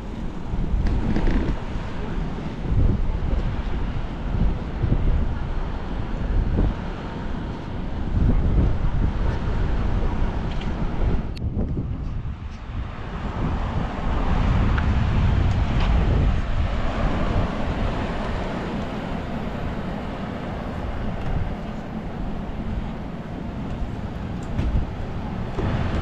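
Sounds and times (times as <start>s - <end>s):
jet aircraft flying overhead: 0.0s - 26.0s.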